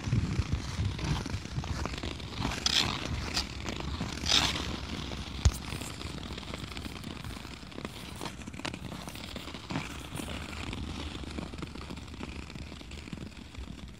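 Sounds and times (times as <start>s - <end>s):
ice skates scraping on ice: 0.0s - 13.9s.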